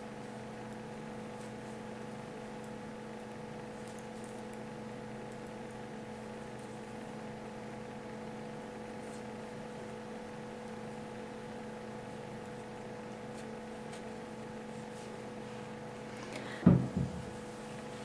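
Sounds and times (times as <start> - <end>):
electrical hum with hiss: 0.0 - 18.0.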